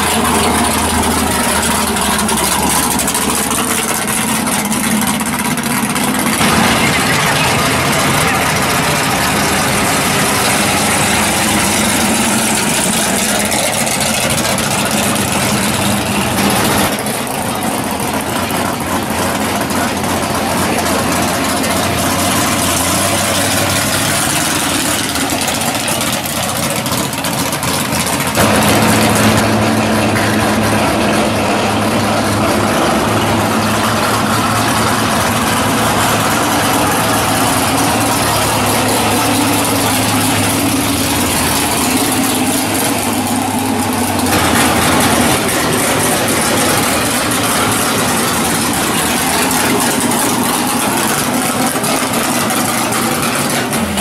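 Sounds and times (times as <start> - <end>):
drag car engines idling: 0.0 - 54.0.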